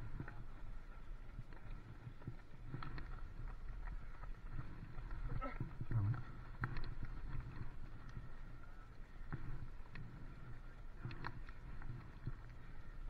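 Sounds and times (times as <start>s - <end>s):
bicycle rolling on wet tarmac: 0.0s - 13.0s.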